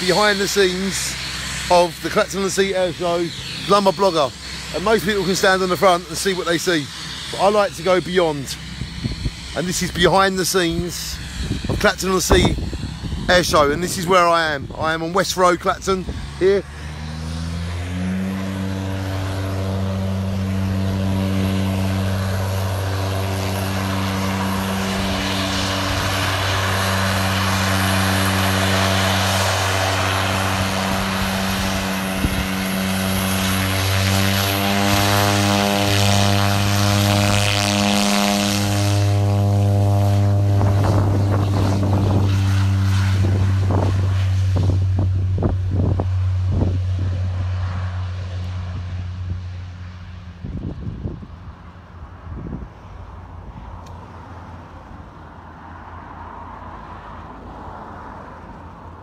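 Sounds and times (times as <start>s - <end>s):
hissing turbine whine: 0.0s - 59.0s
propeller hum: 0.0s - 59.0s.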